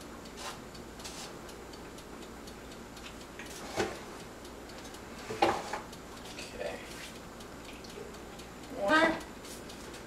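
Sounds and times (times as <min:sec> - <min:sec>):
faint regular ticking: 0:00.0 - 0:10.0.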